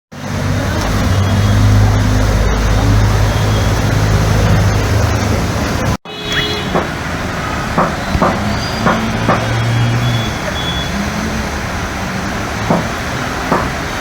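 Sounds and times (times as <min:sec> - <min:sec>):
rushing water: 0:00.1 - 0:14.0
street traffic: 0:00.1 - 0:14.0.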